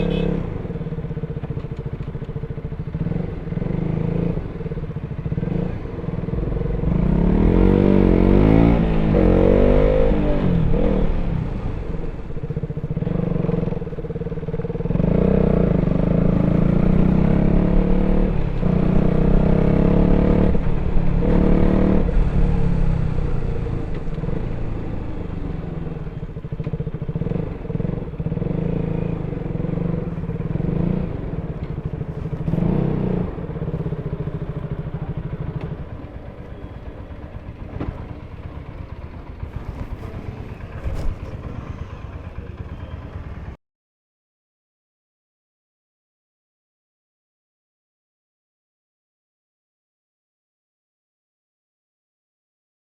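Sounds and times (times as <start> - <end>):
motorcycle engine revving: 0.0 - 43.6.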